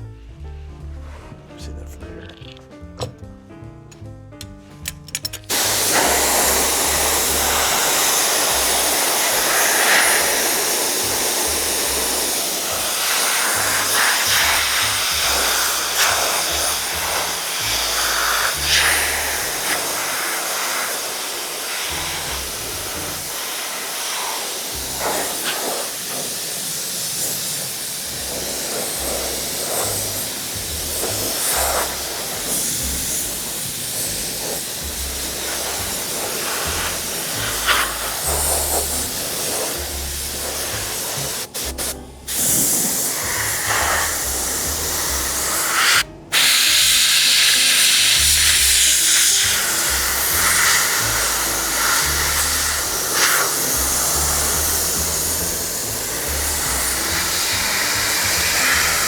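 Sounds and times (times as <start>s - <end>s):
spray adhesive gun hissing: 5.3s - 59.0s.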